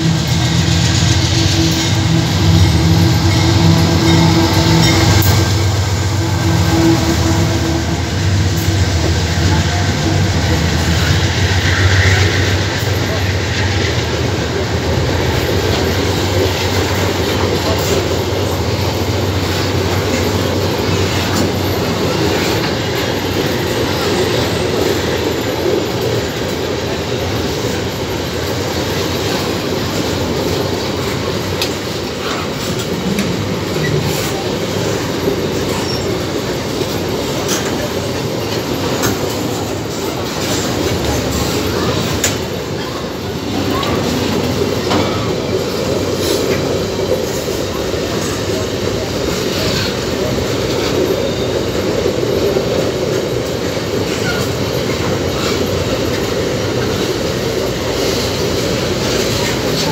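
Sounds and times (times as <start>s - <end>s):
train clicks and clanks: 0.0s - 59.9s
train wheels rumbling on rails: 0.0s - 59.9s.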